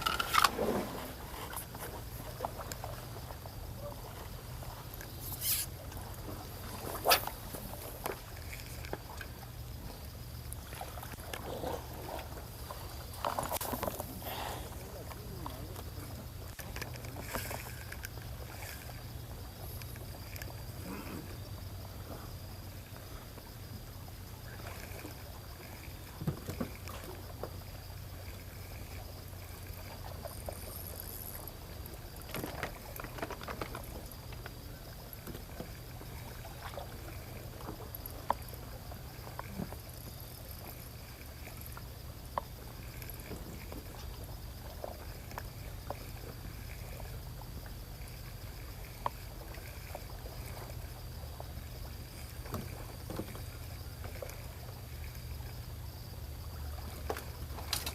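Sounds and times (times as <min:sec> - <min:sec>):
seawater lapping at shore: 0:00.0 - 0:57.9.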